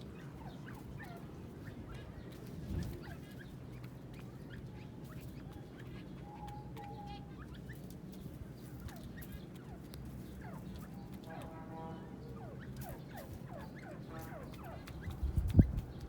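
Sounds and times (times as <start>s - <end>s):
francolins chirping: 3.0s - 16.0s.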